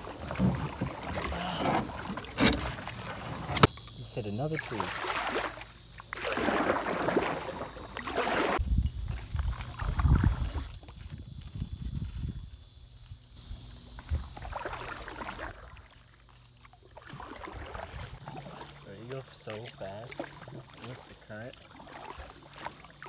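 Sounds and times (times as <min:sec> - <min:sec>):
water splashing from paddle: 0:00.0 - 0:11.6, 0:14.0 - 0:23.0.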